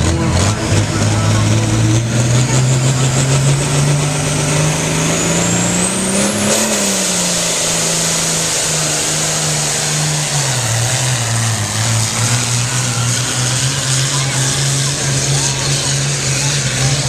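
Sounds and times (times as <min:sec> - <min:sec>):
tractor diesel engine running hard: 0:00.0 - 0:17.0.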